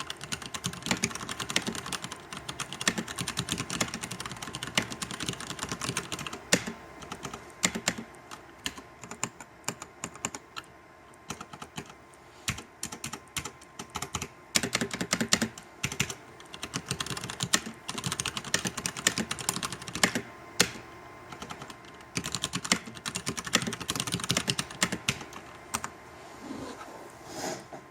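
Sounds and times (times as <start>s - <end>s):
mechanical keyboard typing: 0.0s - 10.7s, 11.3s - 25.9s.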